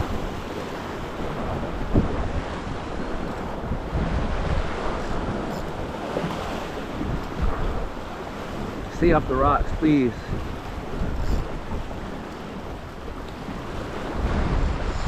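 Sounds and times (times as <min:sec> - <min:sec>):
sea surf washing against rocks: 0:00.0 - 0:15.0
wind buffeting microphone: 0:00.0 - 0:15.0.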